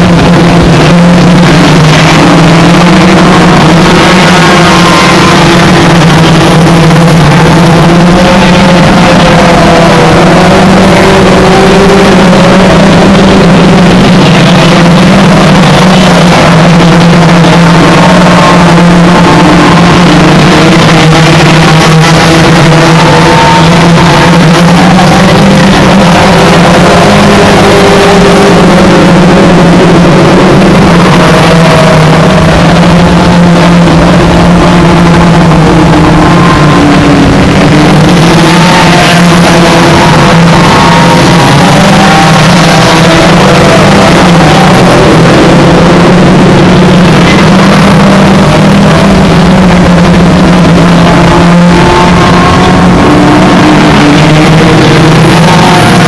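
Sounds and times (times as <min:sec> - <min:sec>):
race car engines revving: 0:00.0 - 0:56.0.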